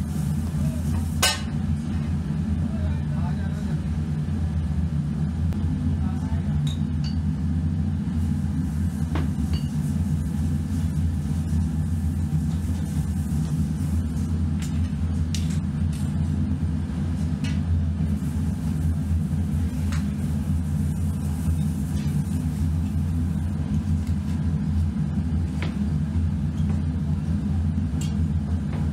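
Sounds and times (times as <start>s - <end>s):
low machine hum: 0.0s - 28.9s.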